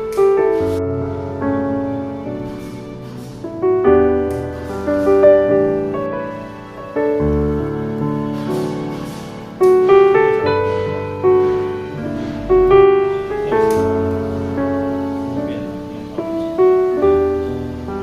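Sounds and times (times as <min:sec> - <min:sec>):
gentle piano chords: 0:00.0 - 0:18.0.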